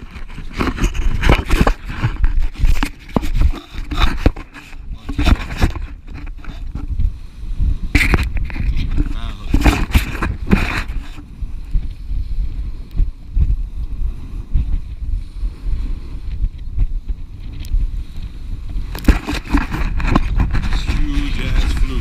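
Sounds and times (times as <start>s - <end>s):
microphone handling knocks and rustles: 0.0s - 22.0s
wind buffeting microphone: 0.0s - 22.0s.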